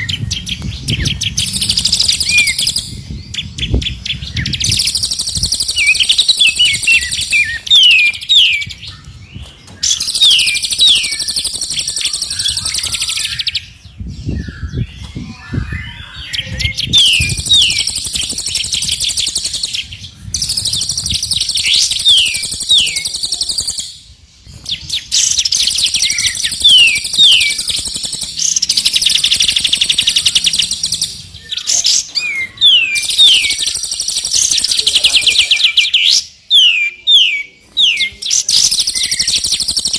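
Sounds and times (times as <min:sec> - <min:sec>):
songbirds singing whistles and trills: 0:00.0 - 0:39.9.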